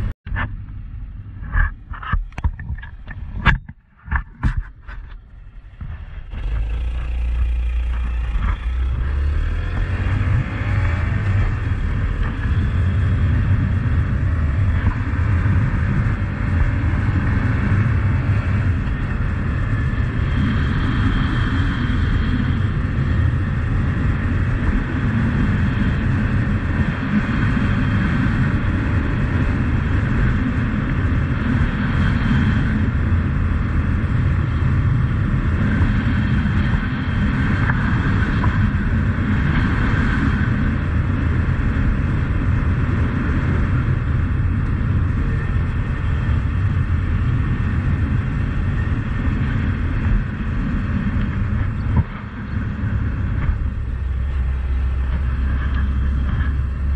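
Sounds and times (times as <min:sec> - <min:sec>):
wind rush: 0:00.0 - 0:56.9
motorcycle engine running: 0:03.5 - 0:56.9.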